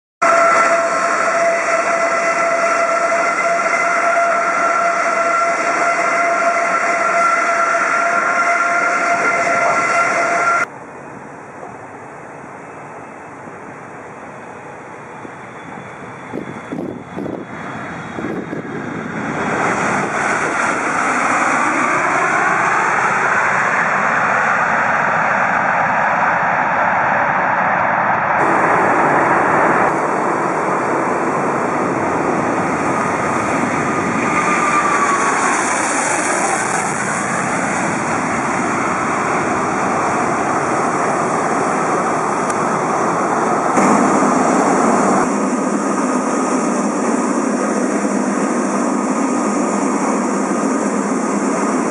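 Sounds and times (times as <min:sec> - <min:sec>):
jet engines roaring: 0:00.3 - 0:51.9.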